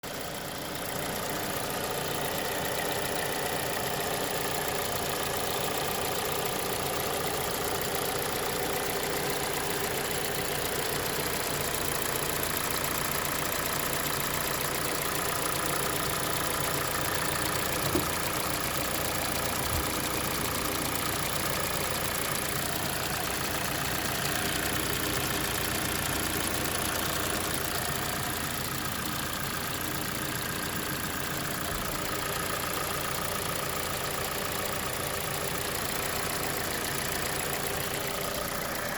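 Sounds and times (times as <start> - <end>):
car engine idling: 0.0 - 38.9
light engine ticking: 0.0 - 38.9.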